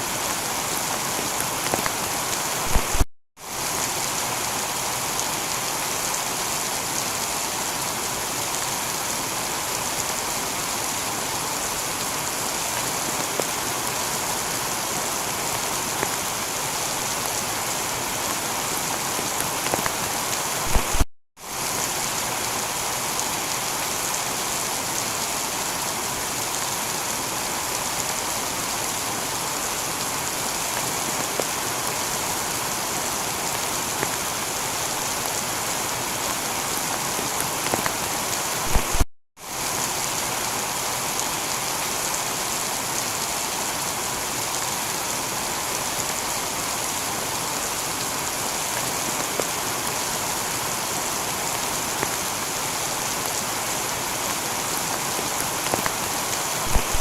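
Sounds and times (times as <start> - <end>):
heavy rain on a tiled roof: 0.0 - 57.0.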